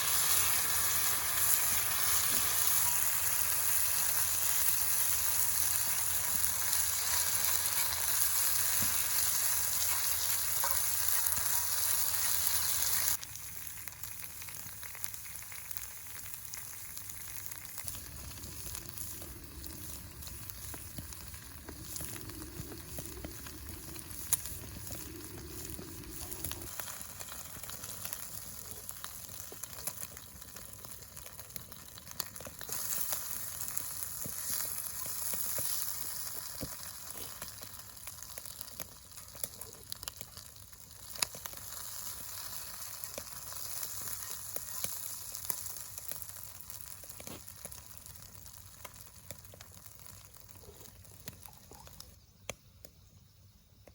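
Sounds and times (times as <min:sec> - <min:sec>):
wood fire crackling and hissing: 0:00.0 - 0:53.9.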